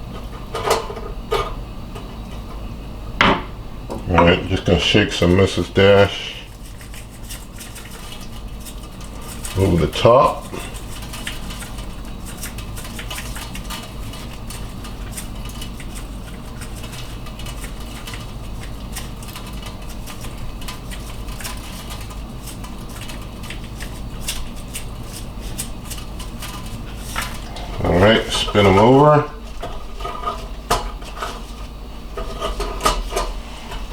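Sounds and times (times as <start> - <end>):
steady low hum: 0.0 - 33.9
seasoning shaker rattling: 4.2 - 31.7.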